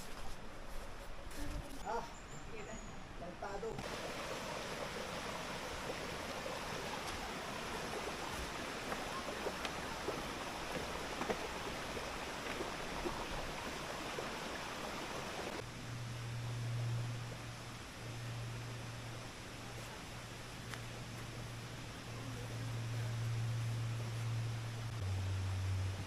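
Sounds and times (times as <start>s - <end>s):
low steady hum: 0.0s - 26.0s
river water flowing: 3.8s - 26.0s.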